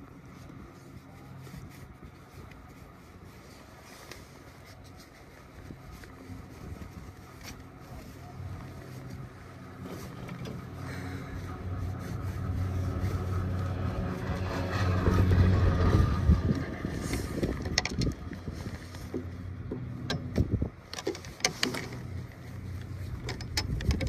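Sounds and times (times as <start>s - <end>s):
chairlift mechanical hum: 0.0s - 24.0s.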